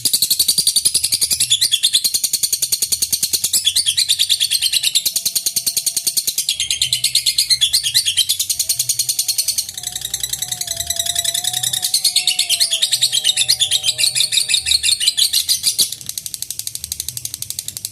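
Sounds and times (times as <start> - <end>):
lovebird chattering trill: 1.4 - 16.1.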